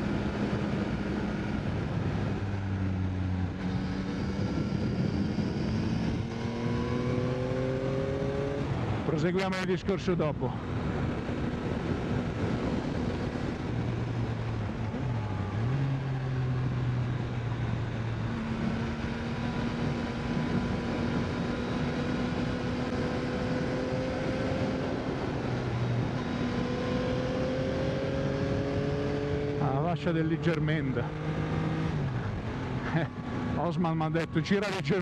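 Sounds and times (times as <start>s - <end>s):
wind noise: 0.0s - 9.6s, 10.4s - 29.7s
motorcycle engine pulling steadily: 0.0s - 35.0s.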